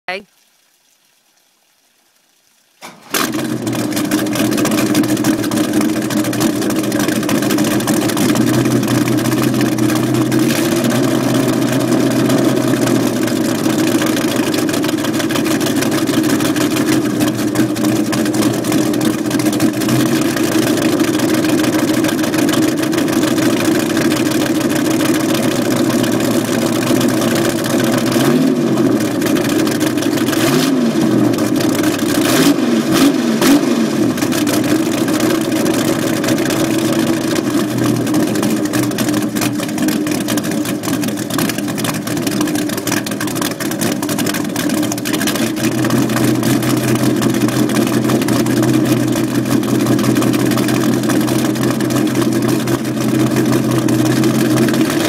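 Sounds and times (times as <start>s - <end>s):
boat engine revving: 2.8s - 55.0s
boat engine starting and idling: 2.8s - 55.0s.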